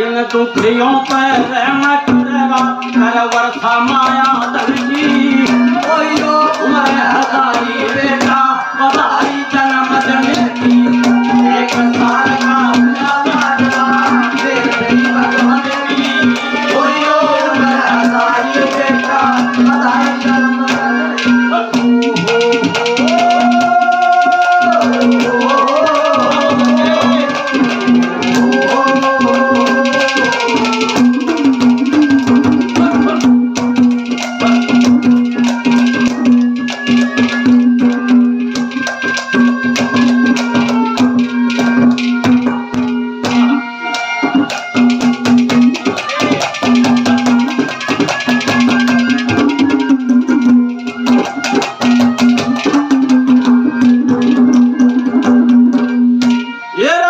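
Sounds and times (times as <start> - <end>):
fast hand drum strokes: 0.0 - 56.6
rattling percussion: 0.0 - 56.8
folk melody with bending notes: 0.0 - 57.0.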